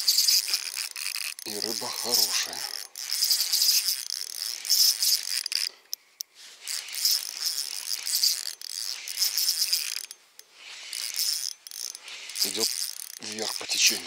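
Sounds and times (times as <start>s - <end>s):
fishing reel rattling whir: 0.0s - 14.0s.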